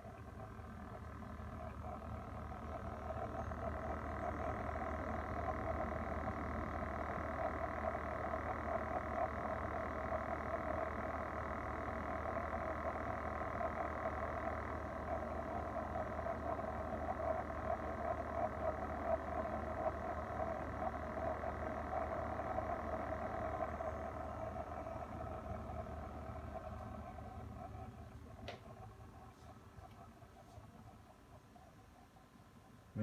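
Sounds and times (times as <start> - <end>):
rapid rattling buzz: 0.0 - 31.7
refrigerator humming: 0.0 - 33.0.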